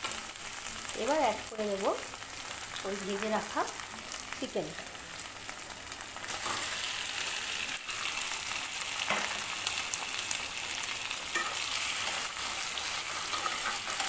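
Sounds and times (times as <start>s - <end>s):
hot oil sizzling: 0.0s - 14.0s.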